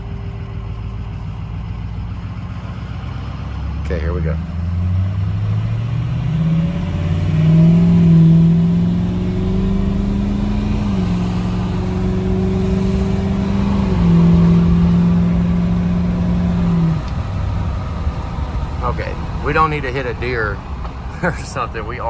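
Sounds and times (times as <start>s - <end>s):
diesel engine accelerating: 0.0s - 22.0s.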